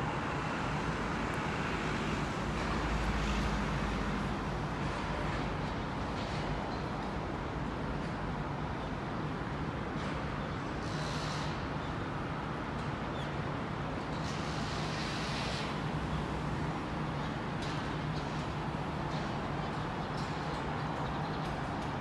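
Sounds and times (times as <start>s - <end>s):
city traffic noise: 0.0s - 22.0s.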